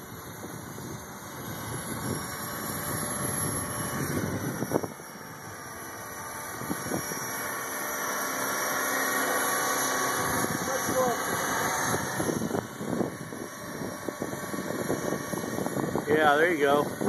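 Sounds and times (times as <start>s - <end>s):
wind noise on microphone: 0.0s - 7.6s, 10.1s - 17.0s
model aircraft motor whine: 0.0s - 17.0s.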